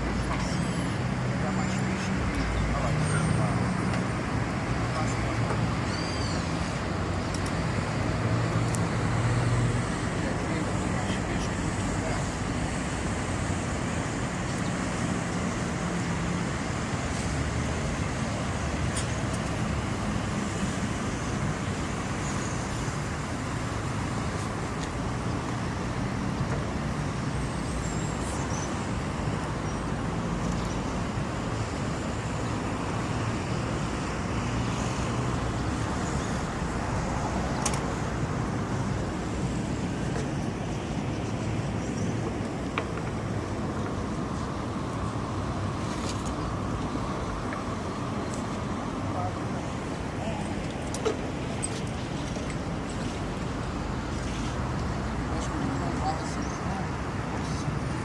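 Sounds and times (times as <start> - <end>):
background rumble and hiss: 1.4 - 58.0.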